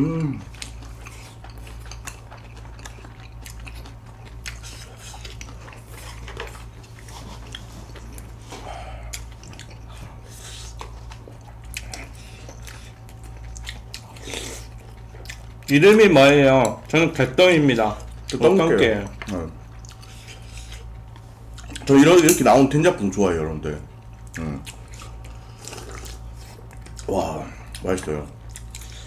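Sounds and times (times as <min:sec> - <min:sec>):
chewing and mouth noises: 0:00.0 - 0:22.8, 0:23.8 - 0:29.0
steady low hum: 0:00.0 - 0:29.0.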